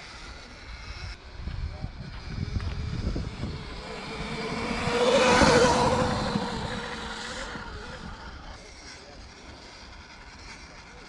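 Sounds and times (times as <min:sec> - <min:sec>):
electric dirt bike motor whine: 0:00.0 - 0:11.0.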